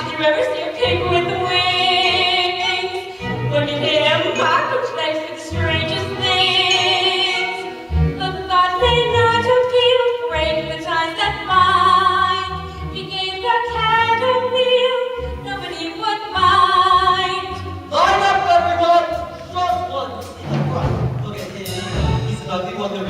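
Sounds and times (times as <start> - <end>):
instrumental accompaniment: 0.0 - 23.0
voices singing with vibrato: 0.0 - 23.0.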